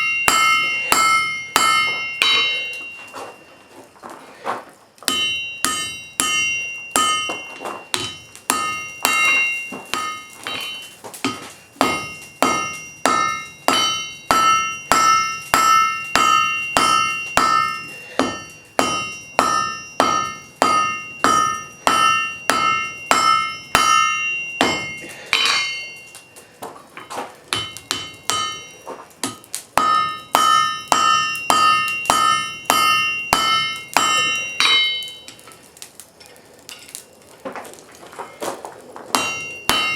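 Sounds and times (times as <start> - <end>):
hammer striking iron on anvil: 0.0 - 3.4, 5.1 - 26.3, 27.0 - 35.5, 39.1 - 39.9.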